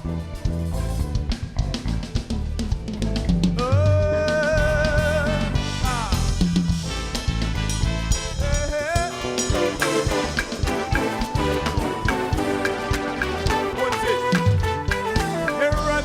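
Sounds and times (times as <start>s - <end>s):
gospel band music: 0.0s - 16.0s.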